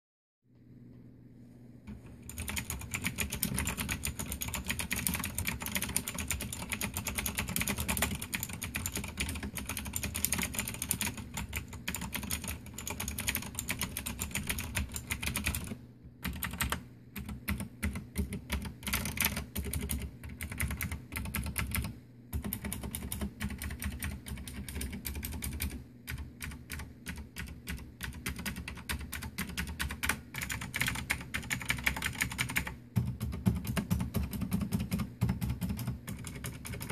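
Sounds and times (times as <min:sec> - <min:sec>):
fast typing on clicky keyboard: 0:01.9 - 0:36.9.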